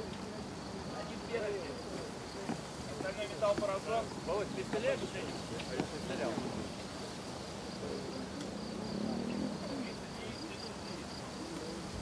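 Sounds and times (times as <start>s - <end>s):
people talking faintly: 0.0s - 12.0s.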